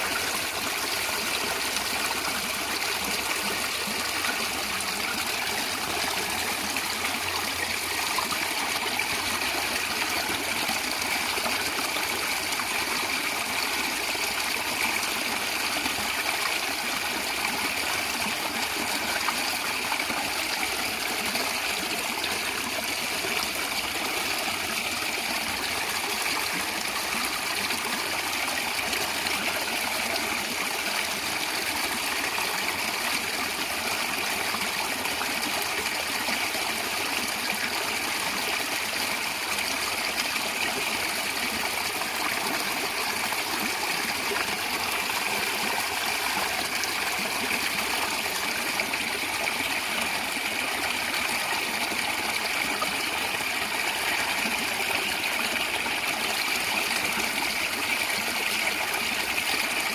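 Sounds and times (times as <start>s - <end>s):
stream of water gurgling: 0.0s - 59.9s.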